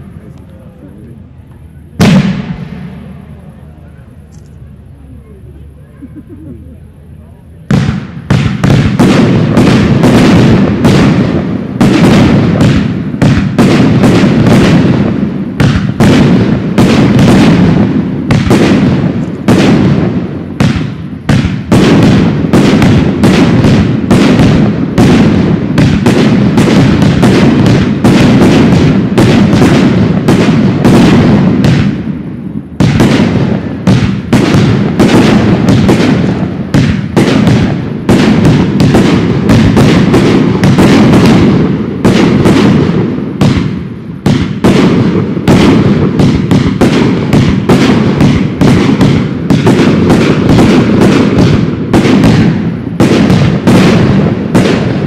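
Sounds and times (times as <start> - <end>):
firework shells bursting: 7.7 - 55.0.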